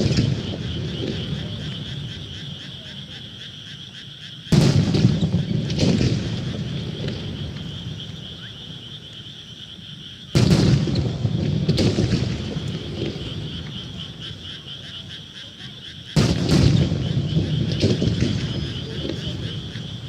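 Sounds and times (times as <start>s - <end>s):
fireworks booming and crackling: 0.0s - 3.6s, 4.4s - 20.0s.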